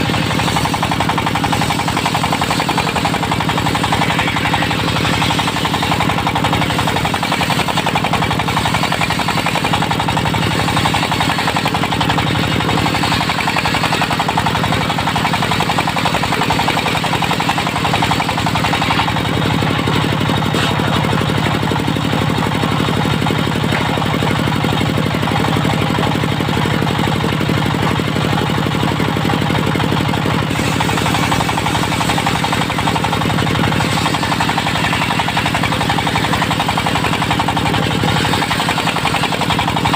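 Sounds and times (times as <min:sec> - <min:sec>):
circular saw whirring: 0:00.0 - 0:22.6, 0:30.3 - 0:39.9
diesel engine knocking: 0:00.0 - 0:39.9.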